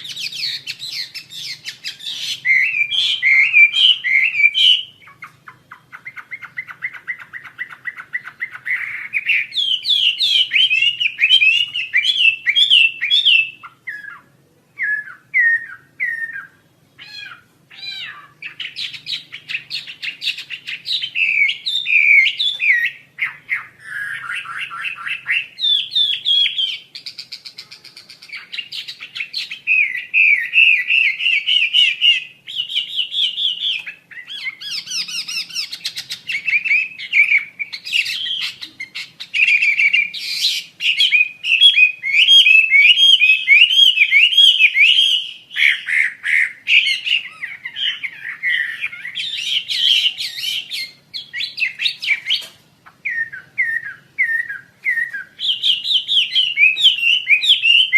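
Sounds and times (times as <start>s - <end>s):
bird singing whistled notes: 0.0s - 57.9s.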